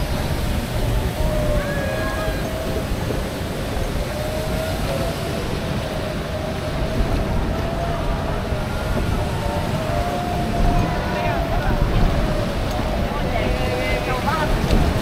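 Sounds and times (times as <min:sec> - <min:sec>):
churning water: 0:00.0 - 0:15.0
thin wavering whine: 0:00.0 - 0:15.0
wind: 0:00.0 - 0:15.0.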